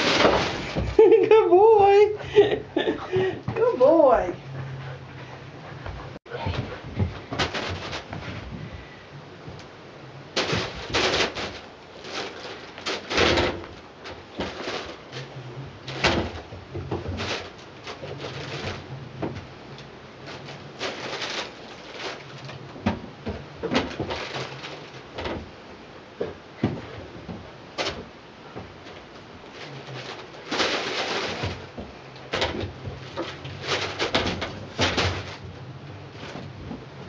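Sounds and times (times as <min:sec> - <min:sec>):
puppy rustling among toys: 0:00.0 - 0:09.6, 0:10.4 - 0:25.4, 0:26.7 - 0:37.0.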